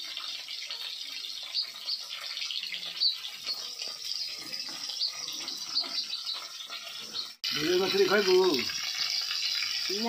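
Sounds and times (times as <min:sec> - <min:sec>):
fish sizzling in hot oil: 0:00.0 - 0:10.0
oil crackling and popping: 0:00.0 - 0:10.0.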